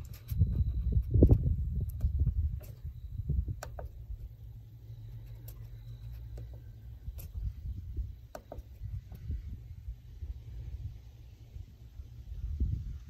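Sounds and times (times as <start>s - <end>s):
wind rumbling on microphone: 0.0s - 4.4s, 6.9s - 13.0s.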